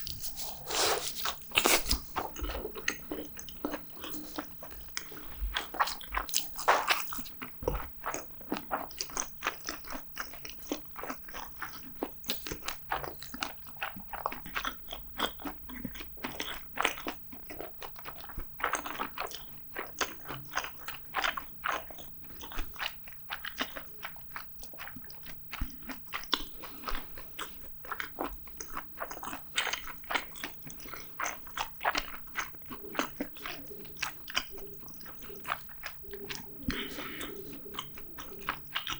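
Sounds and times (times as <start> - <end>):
moist mouth sounds: 0.0 - 38.9
person chewing crunchy food: 0.0 - 38.9.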